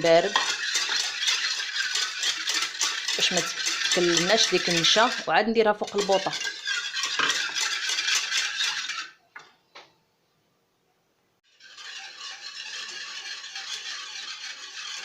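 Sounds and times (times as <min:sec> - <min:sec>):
utensil stirring liquid in pot: 0:00.0 - 0:09.2, 0:11.4 - 0:15.0.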